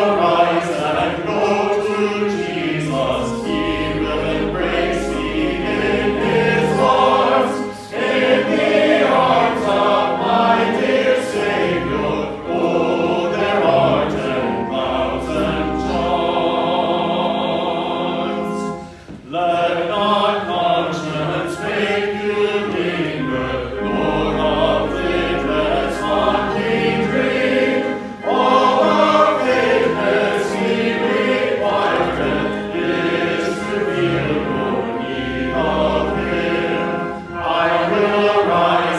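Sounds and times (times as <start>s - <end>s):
congregation singing a hymn: 0.0s - 38.9s.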